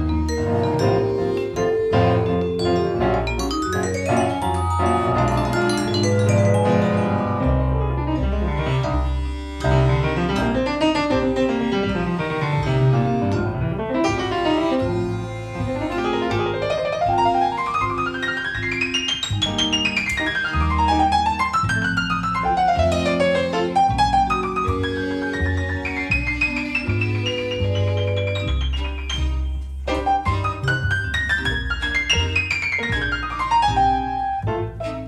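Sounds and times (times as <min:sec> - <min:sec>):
grand piano: 0:00.0 - 0:35.0
low bass notes: 0:00.0 - 0:35.0.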